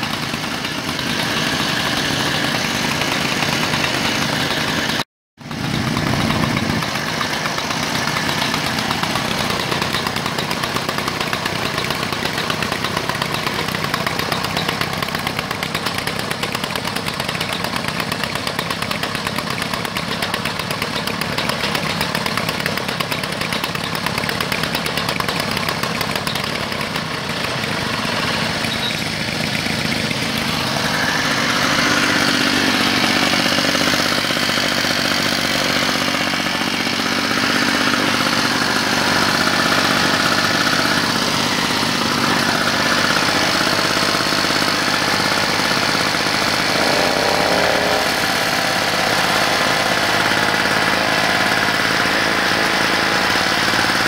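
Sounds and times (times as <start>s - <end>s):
lawn mower engines running: 0.0s - 54.0s.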